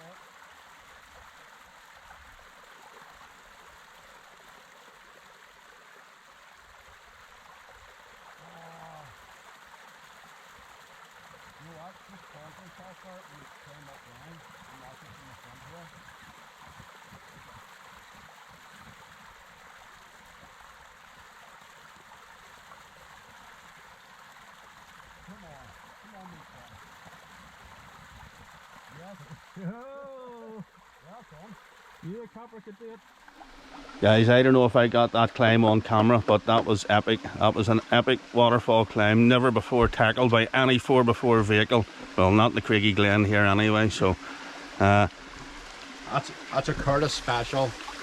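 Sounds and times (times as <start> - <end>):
creek water running over rocks: 0.0 - 48.0.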